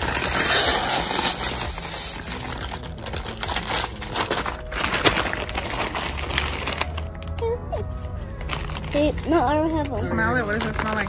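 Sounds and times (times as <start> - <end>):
chip bag crinkling: 0.0 - 7.5, 8.2 - 11.0.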